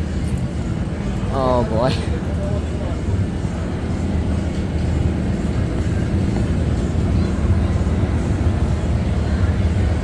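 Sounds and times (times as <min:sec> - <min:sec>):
low rumble of city noise: 0:00.0 - 0:10.0.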